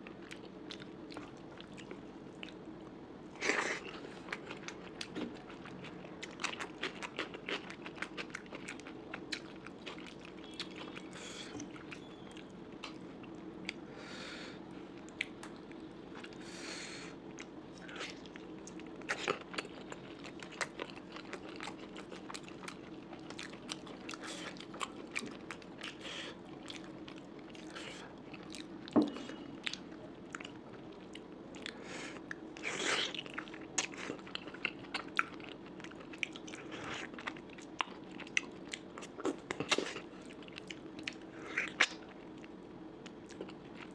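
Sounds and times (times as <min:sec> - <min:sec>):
chewing and crunching: 0:00.0 - 0:13.8, 0:17.2 - 0:43.9.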